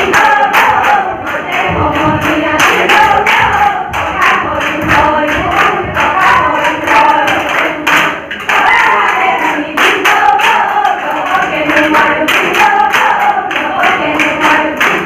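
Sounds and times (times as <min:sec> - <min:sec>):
sharp rhythmic beats: 0:00.0 - 0:15.0
women singing together: 0:00.0 - 0:15.0.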